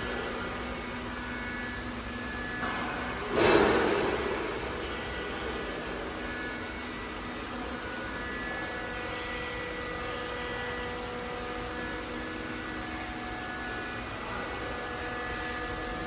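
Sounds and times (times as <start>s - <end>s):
factory hall hum and hiss: 0.0s - 16.0s
faint whining tones: 0.0s - 16.0s.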